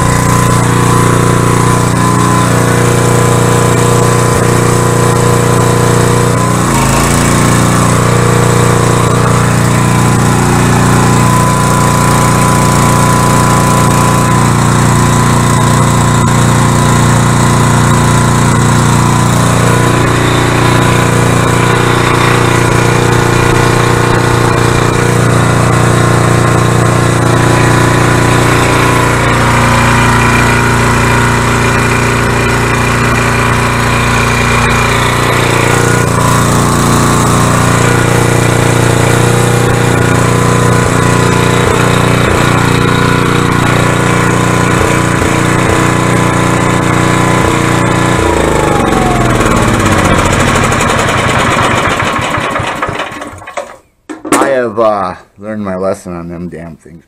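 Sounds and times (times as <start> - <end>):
generator engine running: 0.0 - 54.7.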